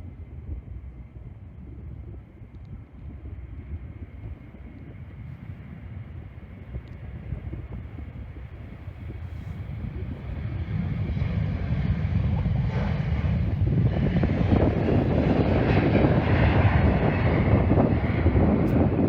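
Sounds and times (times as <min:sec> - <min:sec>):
airliner engines roaring: 0:00.0 - 0:19.0.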